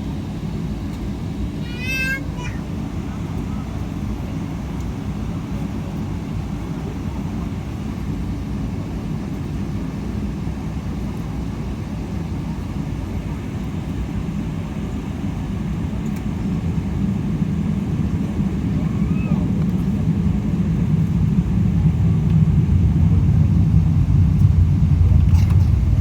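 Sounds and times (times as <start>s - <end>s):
jet airliner rumble: 0.0s - 26.0s.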